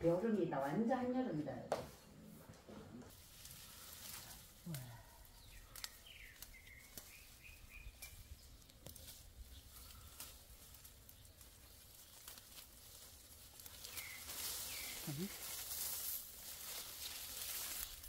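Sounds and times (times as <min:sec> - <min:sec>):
leaves and twigs rustling: 0:03.1 - 0:18.0.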